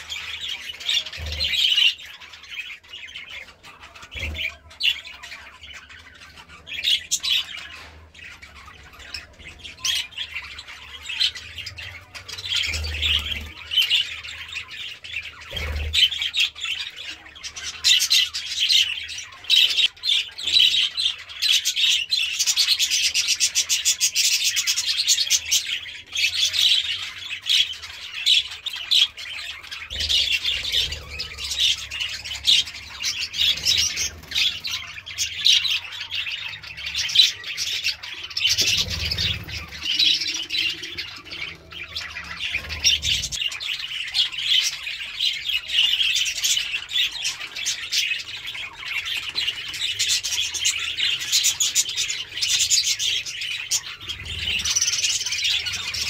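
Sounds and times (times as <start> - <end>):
budgerigars chattering and squawking: 0.0 - 56.0.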